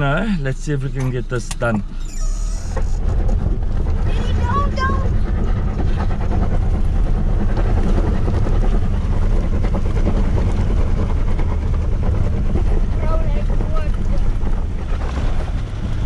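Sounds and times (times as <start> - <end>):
pickup truck engine pulling: 0.0 - 16.0.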